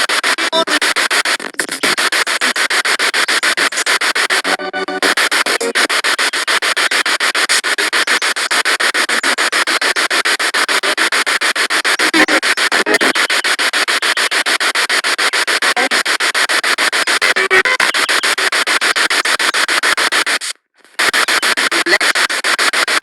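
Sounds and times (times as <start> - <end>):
chopped radio static hiss: 0.0 - 23.0
snatches of broadcast sound: 0.0 - 23.0.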